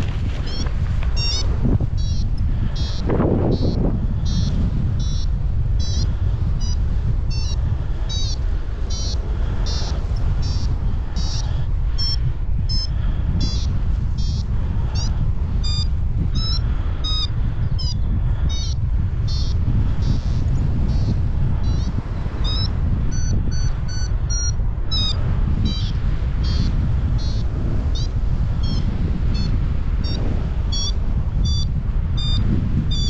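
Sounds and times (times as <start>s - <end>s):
variometer beeping: 0.0s - 33.0s
wind on microphone: 0.0s - 33.0s.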